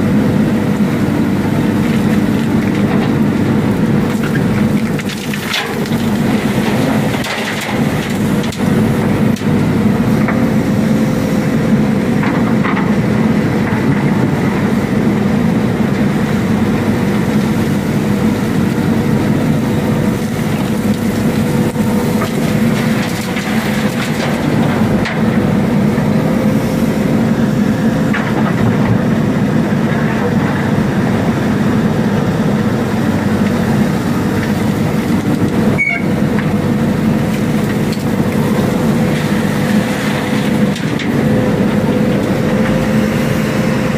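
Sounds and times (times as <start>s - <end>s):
diesel engine under hydraulic load: 0.0s - 43.9s.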